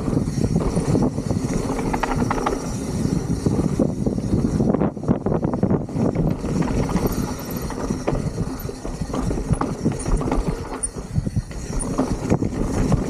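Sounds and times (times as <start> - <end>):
bike rattling and knocking: 0.0 - 13.0
bike tyres crunching on trail: 0.0 - 13.0.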